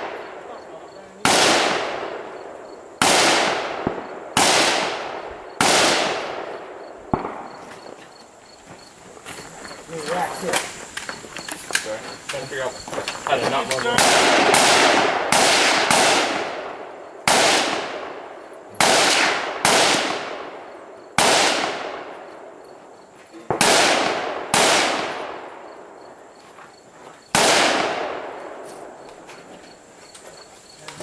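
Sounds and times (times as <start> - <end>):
rifle shots echoing: 0.0 - 8.3, 10.0 - 22.6, 23.4 - 26.2, 27.3 - 29.0.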